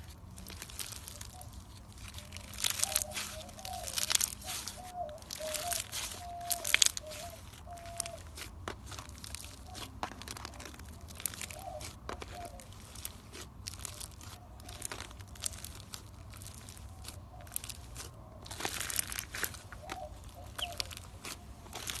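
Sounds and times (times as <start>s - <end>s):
slime squishing and crackling: 0.0s - 22.0s.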